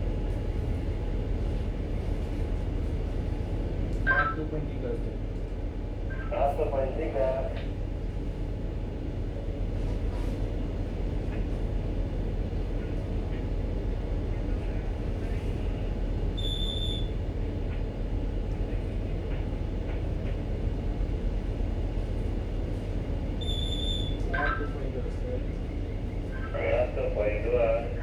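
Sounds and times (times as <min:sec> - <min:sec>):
ship machinery rumble: 0:00.0 - 0:28.0.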